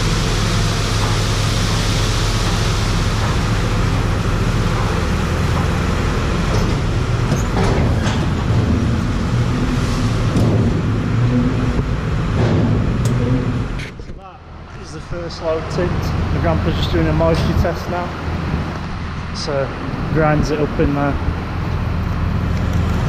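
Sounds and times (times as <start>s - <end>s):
constant rushing noise: 0.0s - 23.0s
tractor engine running: 0.0s - 23.0s.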